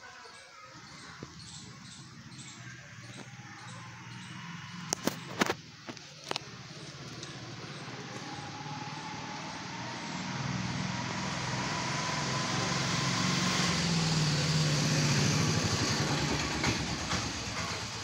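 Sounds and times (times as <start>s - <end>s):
motor vehicle passing: 0.9s - 18.0s.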